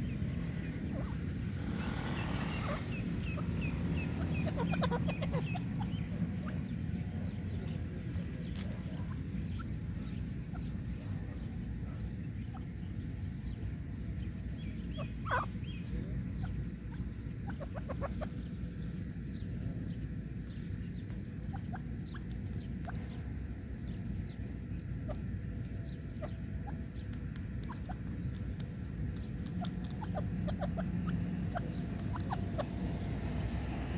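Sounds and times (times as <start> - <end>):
bird chirp: 0.0 - 33.9
bird clucking softly: 0.5 - 12.8, 14.9 - 18.7, 19.6 - 23.4, 24.8 - 33.0.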